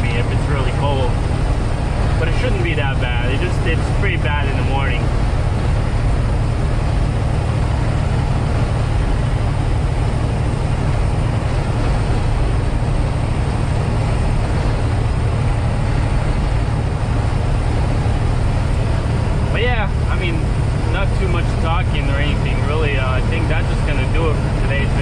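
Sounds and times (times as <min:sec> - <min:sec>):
diesel truck engine: 0:00.0 - 0:25.0
road noise in truck cab: 0:00.0 - 0:25.0.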